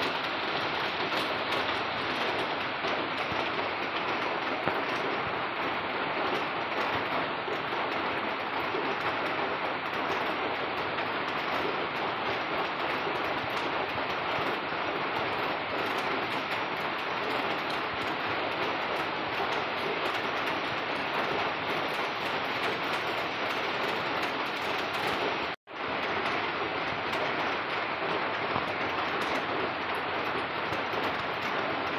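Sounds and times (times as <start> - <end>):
steady drizzle falling: 0.0 - 31.9.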